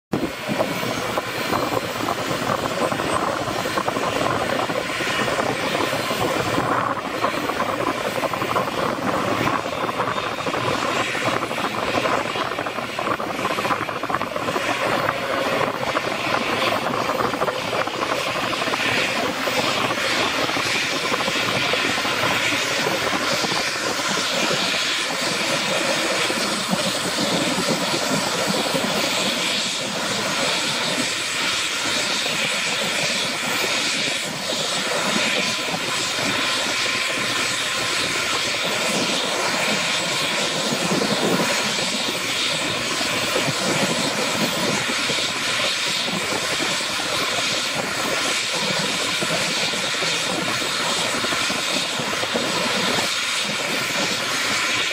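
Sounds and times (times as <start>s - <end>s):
helicopter engines starting up: 0.2s - 54.9s.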